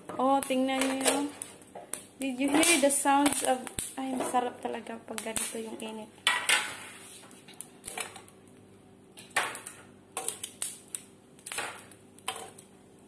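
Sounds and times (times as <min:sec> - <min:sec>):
chestnuts crackling and popping: 0:00.0 - 0:06.6, 0:07.4 - 0:13.0.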